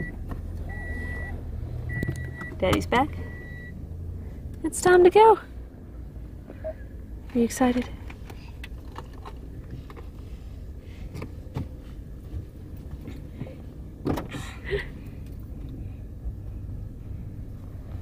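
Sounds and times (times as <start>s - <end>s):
car cabin engine rumble: 0.0s - 18.0s.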